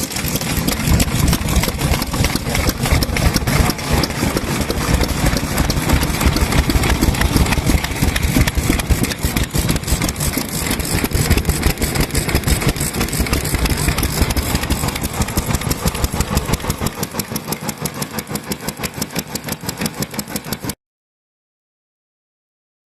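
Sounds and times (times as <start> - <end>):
stationary engine running: 0.0 - 20.8.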